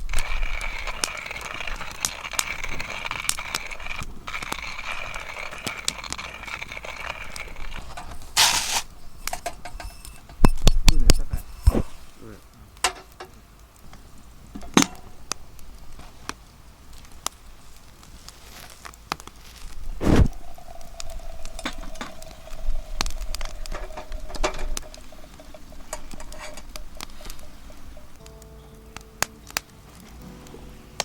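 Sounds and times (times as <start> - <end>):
fire crackling and clicking: 0.0 - 31.0.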